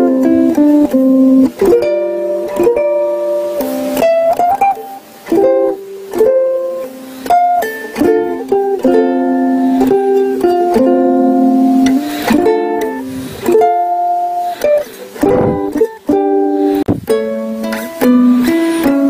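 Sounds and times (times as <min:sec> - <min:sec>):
ukulele playing: 0:00.0 - 0:19.0.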